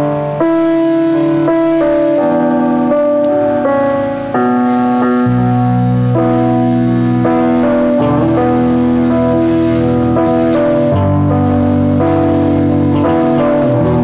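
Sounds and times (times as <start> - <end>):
electronic keyboard piano chords: 0.0 - 14.0.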